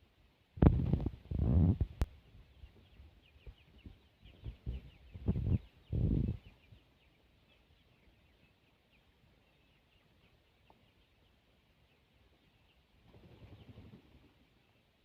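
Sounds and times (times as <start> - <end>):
chickens peeping: 0.6 - 15.0.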